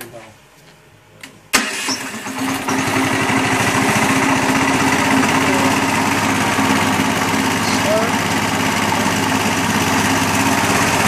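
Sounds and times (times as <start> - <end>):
single-cylinder engine running: 1.6 - 11.0.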